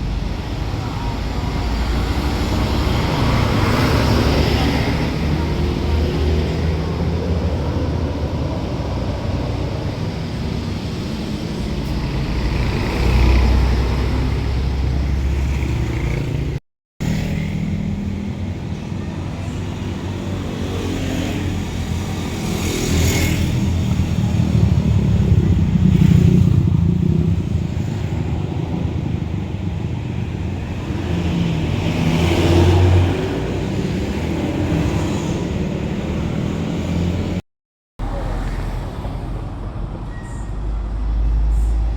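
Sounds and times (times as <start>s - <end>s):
buses driving past: 0.0s - 37.4s, 38.0s - 41.9s
road traffic noise: 0.0s - 37.4s, 38.0s - 41.9s.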